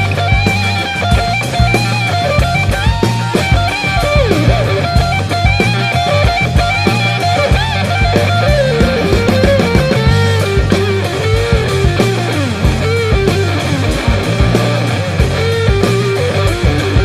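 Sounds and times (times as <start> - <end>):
rock guitar lead melody: 0.0 - 17.0
steady drum beat: 0.0 - 17.0.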